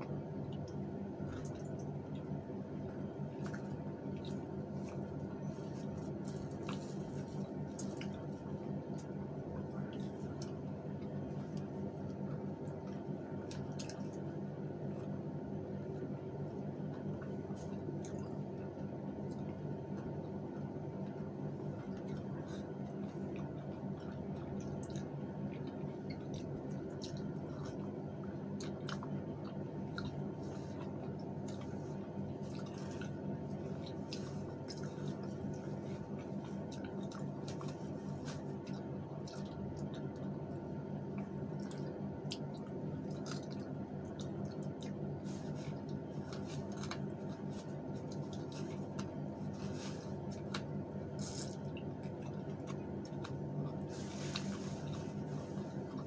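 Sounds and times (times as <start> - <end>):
soft chewing: 0.0 - 56.0
steady low hum: 0.0 - 56.0.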